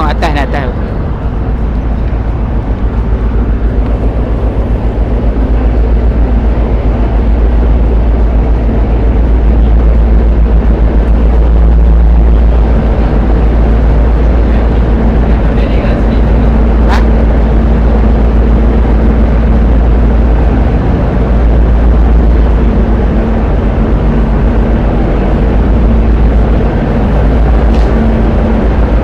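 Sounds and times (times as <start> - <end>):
ship engine rumble: 0.0 - 29.0.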